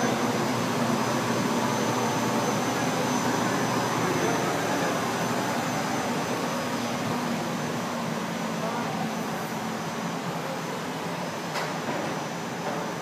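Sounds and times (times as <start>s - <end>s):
machine running steadily: 0.0s - 13.0s.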